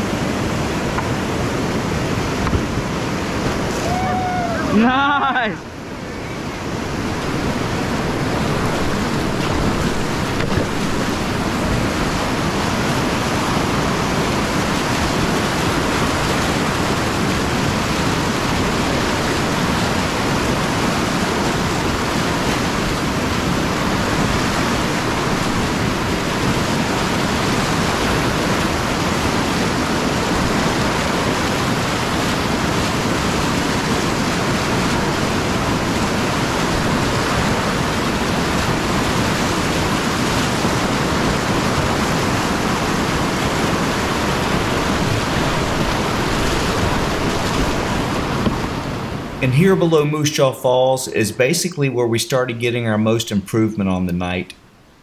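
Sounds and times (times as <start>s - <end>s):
whitewater rapids rushing: 0.0s - 52.2s.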